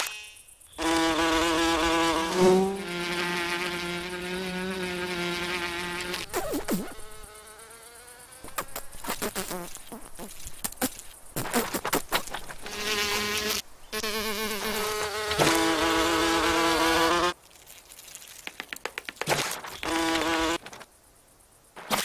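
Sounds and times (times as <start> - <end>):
beetle wings buzzing: 0.0 - 17.4, 18.0 - 20.8.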